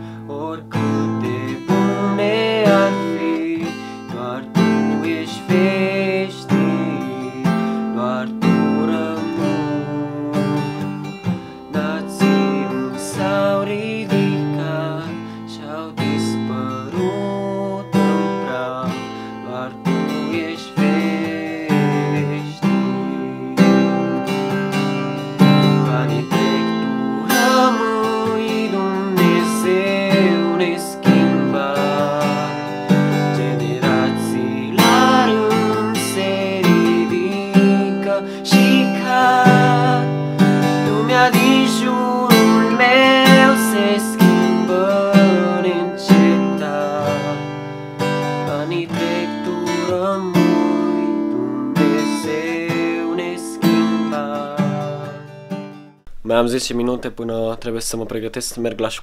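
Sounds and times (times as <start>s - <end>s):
man singing: 0.0s - 55.4s
acoustic guitar strumming: 0.0s - 58.0s.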